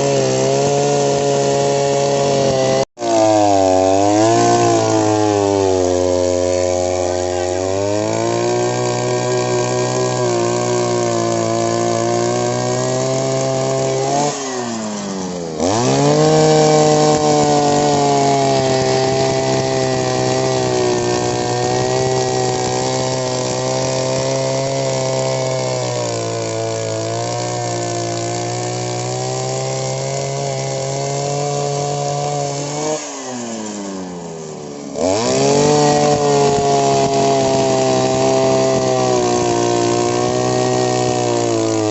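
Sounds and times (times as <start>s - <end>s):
earth auger engine revving: 0.0s - 41.9s.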